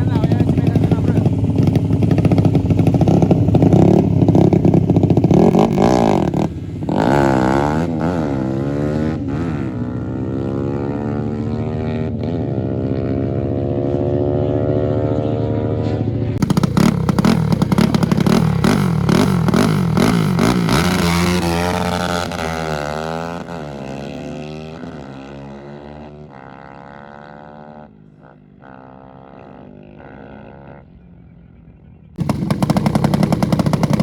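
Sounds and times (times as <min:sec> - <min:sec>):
engine revving unevenly close by: 0:00.0 - 0:31.0, 0:32.2 - 0:34.0
racing motorcycle accelerating: 0:00.0 - 0:34.0.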